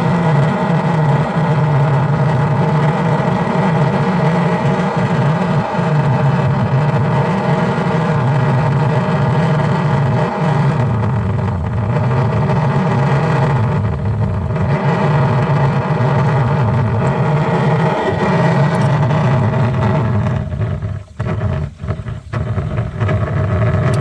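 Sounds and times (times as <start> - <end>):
motor running: 0.0 - 24.0.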